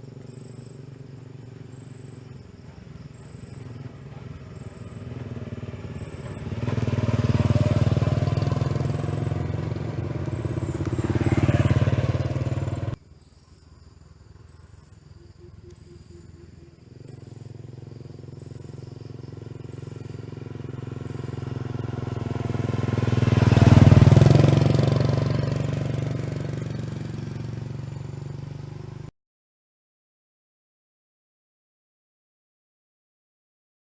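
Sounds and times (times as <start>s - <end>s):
small motorcycle engine passing: 0.0s - 13.0s, 14.4s - 29.1s.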